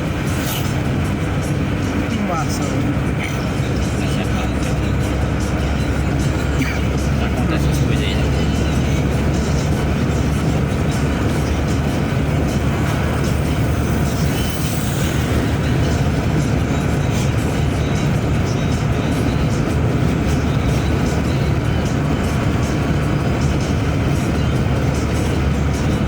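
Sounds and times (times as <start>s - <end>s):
road vehicle rumbling: 0.0s - 26.0s.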